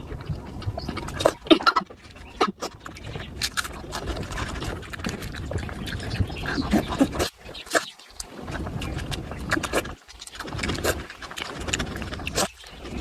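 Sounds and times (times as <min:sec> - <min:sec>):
chewing and lip-smacking: 0:00.0 - 0:13.0.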